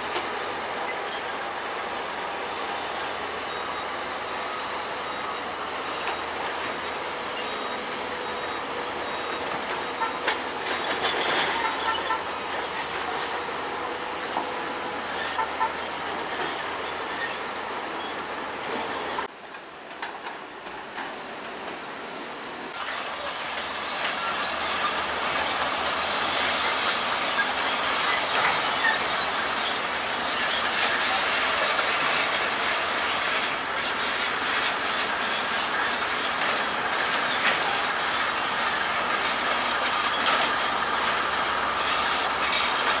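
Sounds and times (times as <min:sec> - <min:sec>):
crawler tracks squealing and clanking: 0:00.0 - 0:43.0.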